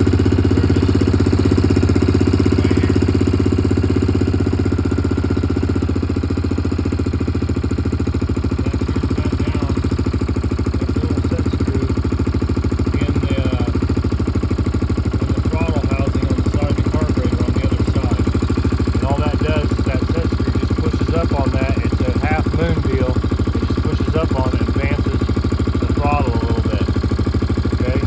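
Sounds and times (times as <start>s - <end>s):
atv engine idling: 0.0s - 28.0s.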